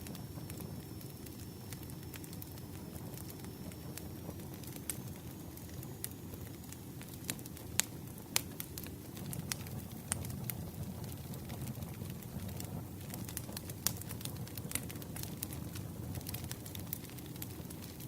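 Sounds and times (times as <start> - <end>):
burning wood crackling and popping: 0.0 - 18.0
campfire flames rumbling: 0.0 - 18.0.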